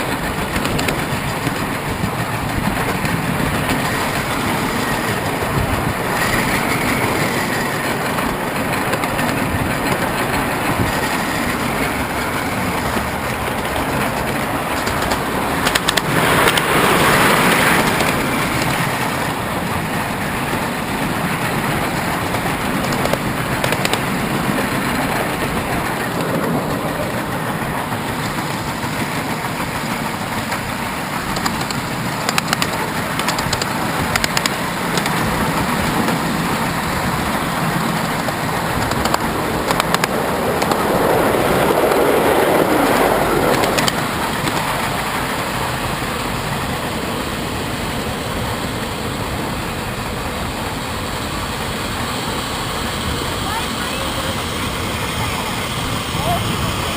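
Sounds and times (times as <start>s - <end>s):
train rumbling and rattling: 0.0s - 56.9s
wheels clicking over rails: 0.0s - 56.9s.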